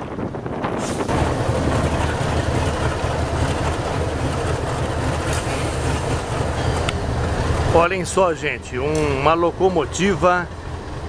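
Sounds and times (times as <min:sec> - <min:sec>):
locomotive engine rumble: 0:00.0 - 0:11.0.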